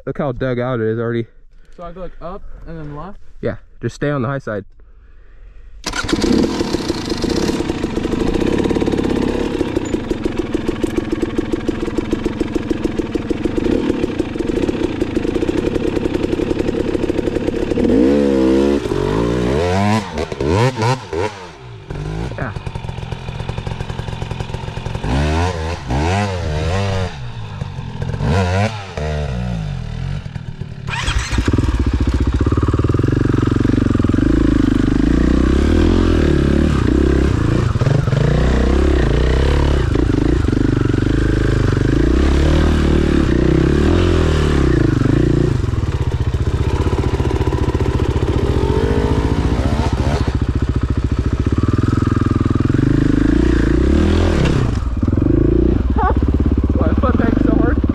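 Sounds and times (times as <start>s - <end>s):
dirt bike engine revving: 5.8s - 57.9s.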